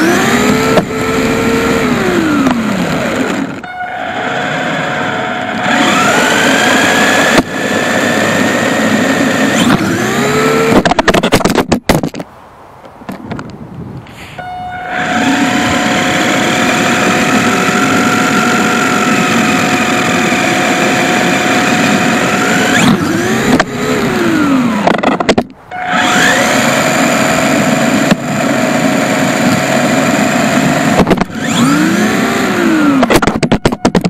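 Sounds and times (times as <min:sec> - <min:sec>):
electric motor and gears whining: 0:00.0 - 0:12.2, 0:14.4 - 0:34.0
tyre and road noise: 0:00.0 - 0:34.0.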